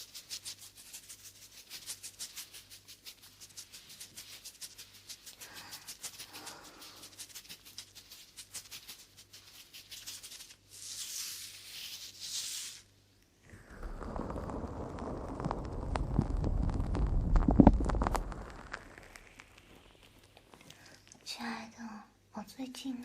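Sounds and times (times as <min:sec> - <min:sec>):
crackly rustling: 0:00.0 - 0:21.4.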